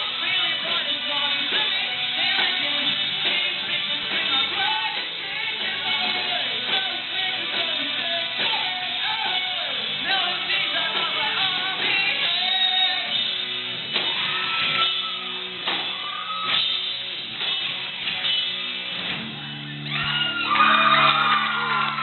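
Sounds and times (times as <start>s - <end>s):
rock music with guitar and singing: 0.0s - 22.0s.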